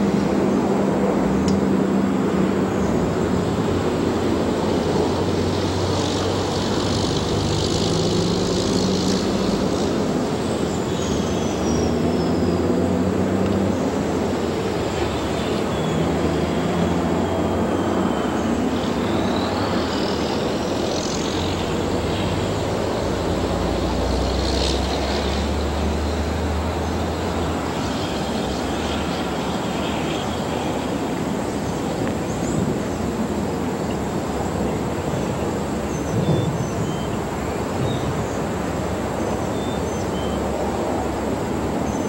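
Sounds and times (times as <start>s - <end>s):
low diesel engine drone: 0.0s - 42.0s.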